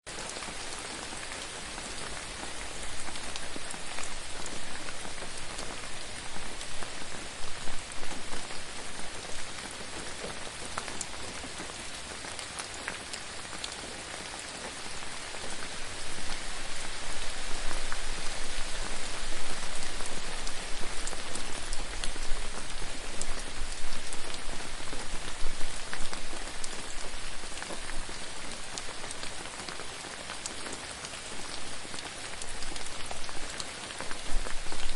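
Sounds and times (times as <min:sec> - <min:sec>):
rain pattering on a surface: 0:00.1 - 0:34.9.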